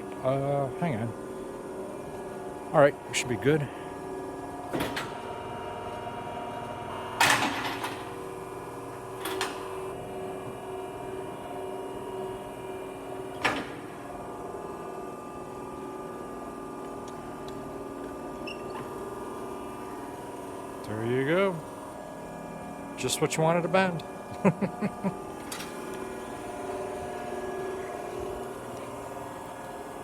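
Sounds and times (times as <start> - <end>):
hydraulic bending machine humming: 0.0 - 30.0.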